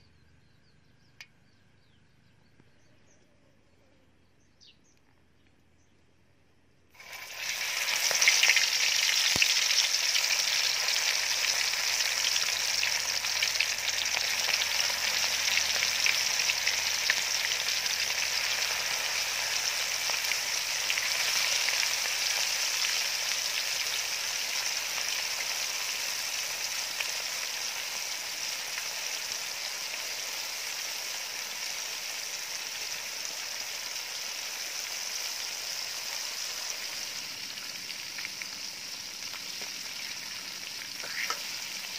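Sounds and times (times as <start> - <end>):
fish deep-frying in oil: 7.0 - 41.9.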